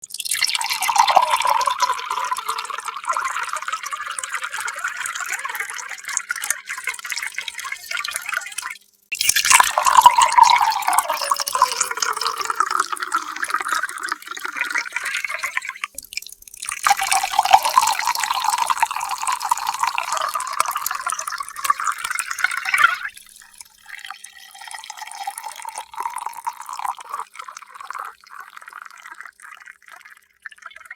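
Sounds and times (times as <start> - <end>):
water pouring and splashing: 0.0 - 30.9
water trickling and dripping: 0.0 - 30.9.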